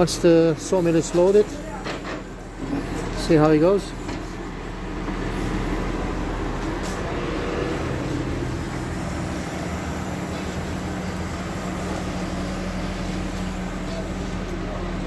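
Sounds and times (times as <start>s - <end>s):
heavy machinery droning: 0.0s - 15.0s.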